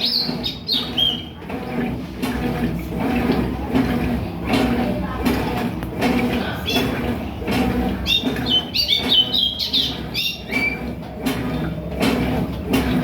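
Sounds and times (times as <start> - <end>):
low indistinct voices: 0.0 - 13.0.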